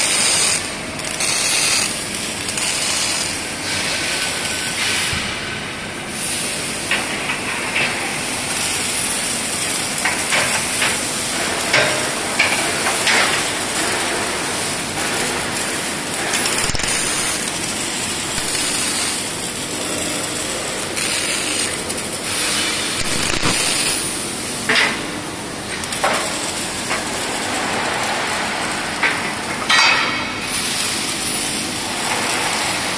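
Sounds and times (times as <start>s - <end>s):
arc welding crackling hiss: 0.0s - 32.9s
workshop noise: 0.0s - 32.9s.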